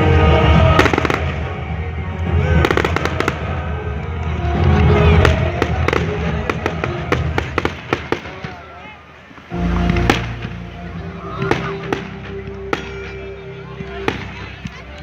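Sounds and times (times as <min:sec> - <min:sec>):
fireworks crackling: 0:00.0 - 0:15.0
fireworks booming: 0:00.2 - 0:04.0, 0:04.6 - 0:14.9.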